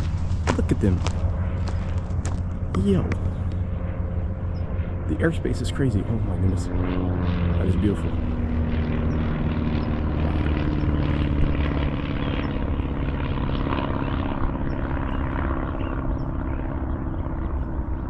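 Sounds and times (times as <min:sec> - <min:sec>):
aircraft engine droning overhead: 0:00.0 - 0:18.0.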